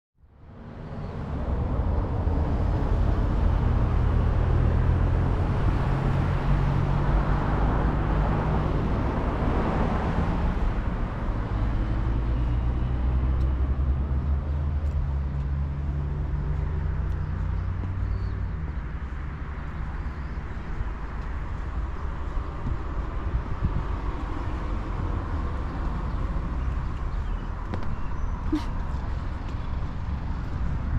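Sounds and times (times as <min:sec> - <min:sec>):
vehicle engine rumbling: 0:00.3 - 0:30.9.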